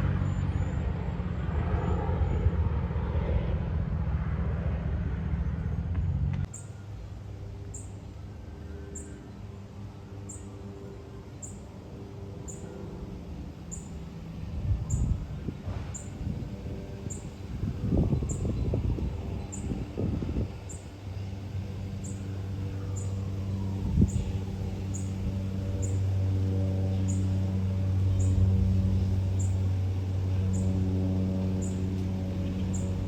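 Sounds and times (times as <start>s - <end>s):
loud low engine rumble: 0.0s - 6.5s, 11.0s - 33.0s.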